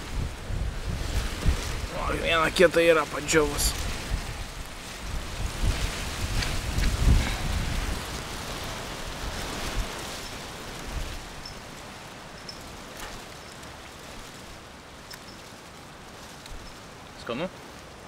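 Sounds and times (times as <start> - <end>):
wind on microphone: 0.0 - 17.2.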